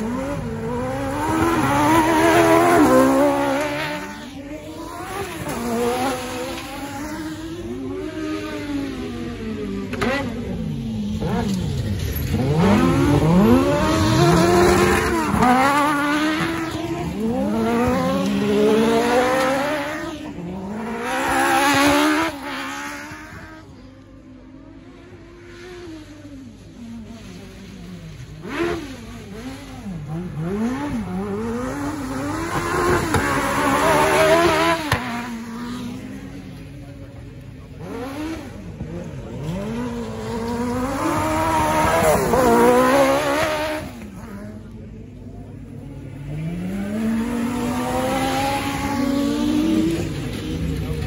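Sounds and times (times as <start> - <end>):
racing car engines revving: 0.0 - 51.0.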